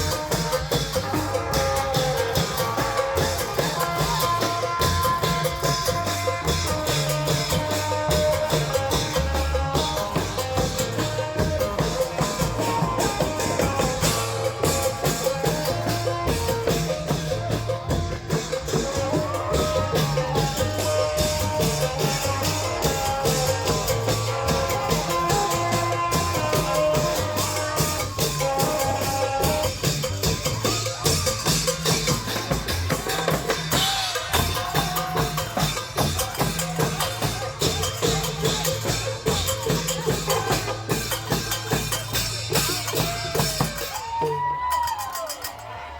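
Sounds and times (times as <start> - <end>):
drum band playing: 0.0 - 45.9.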